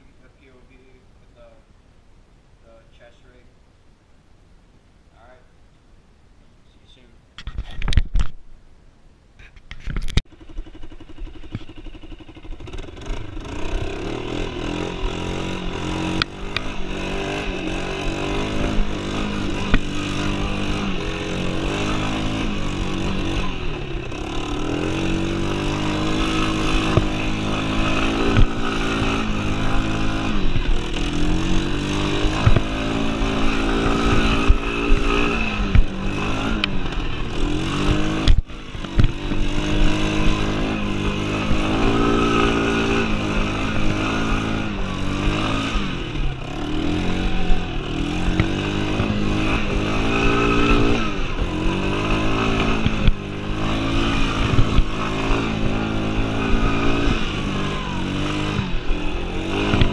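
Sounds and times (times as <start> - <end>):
atv engine revving: 10.2 - 59.9.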